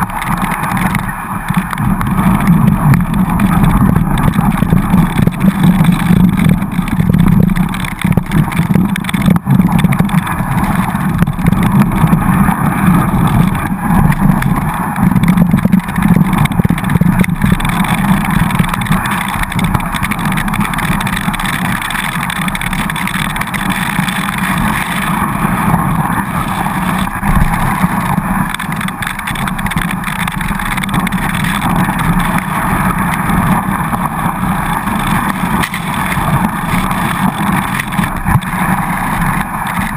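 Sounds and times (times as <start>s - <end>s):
skis scraping over snow: 0.0s - 39.9s
wind on microphone: 0.0s - 39.9s.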